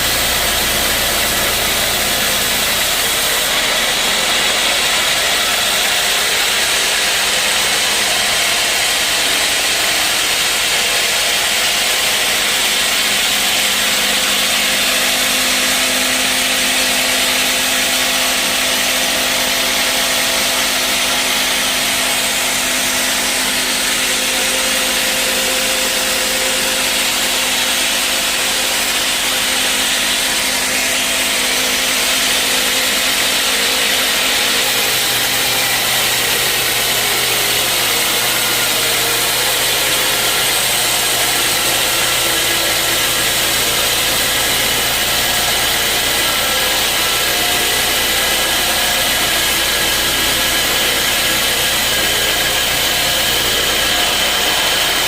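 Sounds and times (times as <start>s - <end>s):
saw blade cutting wood: 0.0s - 55.0s
sawmill machine hum: 0.0s - 55.0s.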